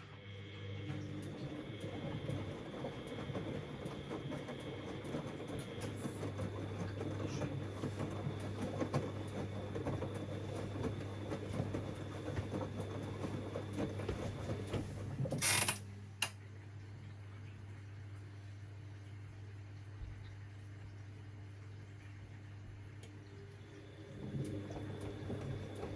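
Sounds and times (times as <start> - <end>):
washing machine hum: 0.0 - 25.9.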